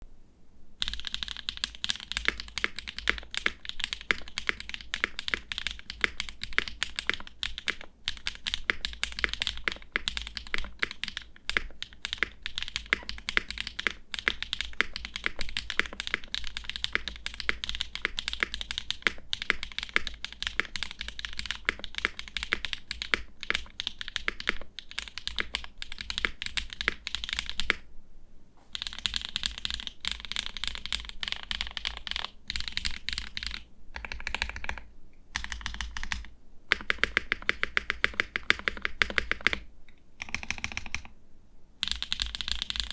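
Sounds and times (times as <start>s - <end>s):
mechanical keyboard typing: 0.8s - 27.8s, 28.7s - 41.1s, 41.8s - 42.9s.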